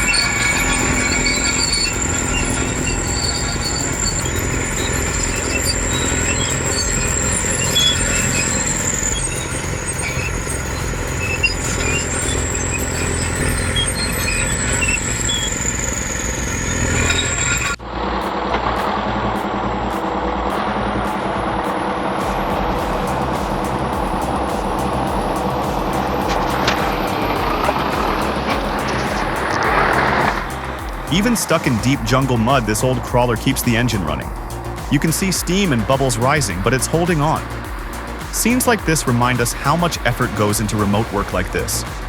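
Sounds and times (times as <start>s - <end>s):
different machine sound: 0.0s - 42.0s
heavy machine engine whining: 0.0s - 42.0s.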